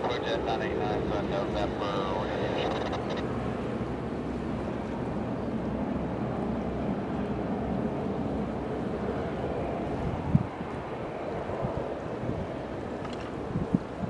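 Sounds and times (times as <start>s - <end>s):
jet engines: 0.0s - 14.0s
wind on microphone: 0.0s - 14.0s.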